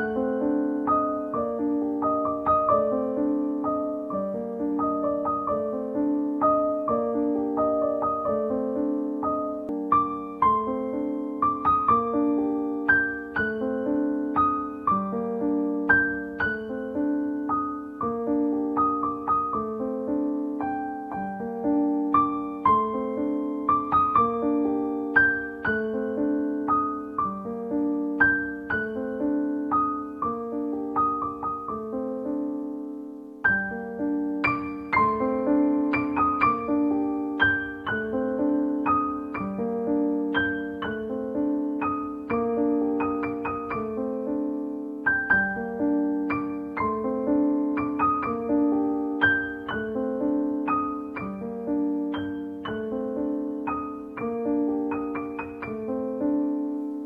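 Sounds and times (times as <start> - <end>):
gentle piano music: 0.0 - 57.0.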